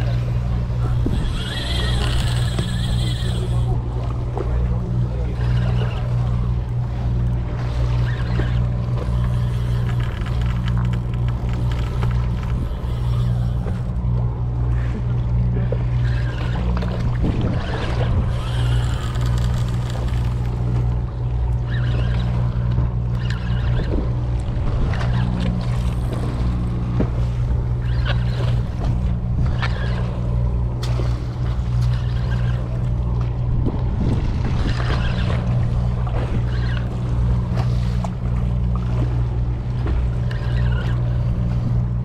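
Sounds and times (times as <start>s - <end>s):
boat engine humming: 0.0s - 42.0s
water noise: 0.0s - 42.0s
wind: 0.0s - 42.0s.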